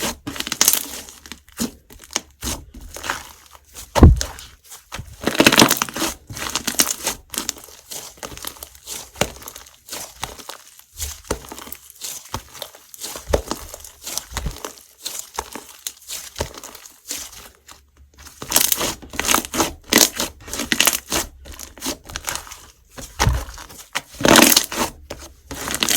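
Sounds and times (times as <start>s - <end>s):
hands squishing slime: 0.0s - 25.9s.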